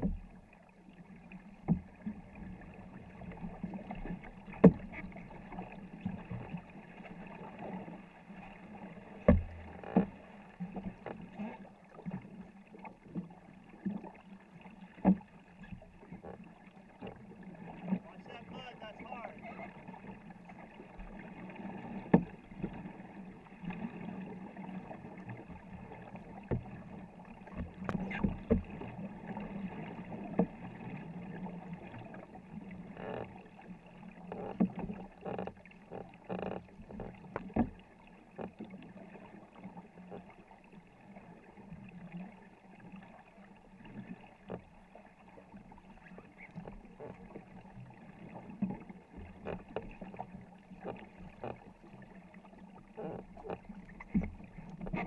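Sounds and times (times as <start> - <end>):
paddle strokes splashing: 0.0 - 55.0
water rushing along a hull: 0.0 - 55.0.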